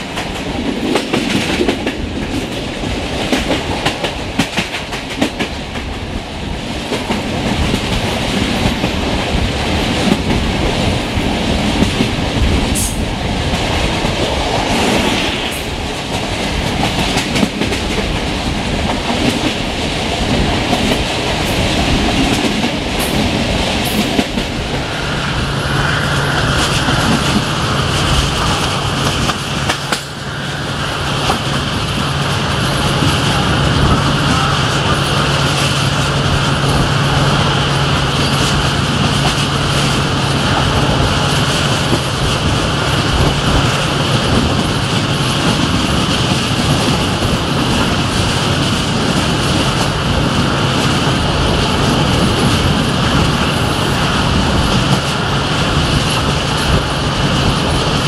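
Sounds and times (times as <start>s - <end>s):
diesel locomotive drone: 0.0s - 58.0s
wind and rail noise: 0.0s - 58.0s.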